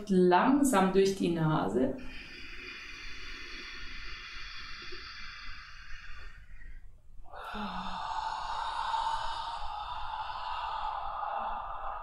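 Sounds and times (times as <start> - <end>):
woman breathing slowly: 2.0 - 12.0.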